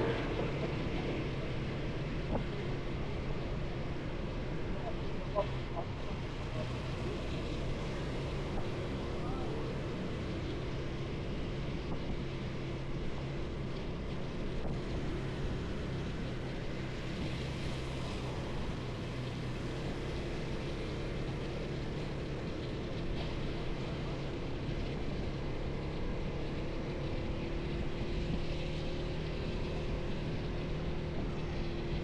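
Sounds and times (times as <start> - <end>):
road noise: 0.0 - 32.0
wind: 0.0 - 32.0.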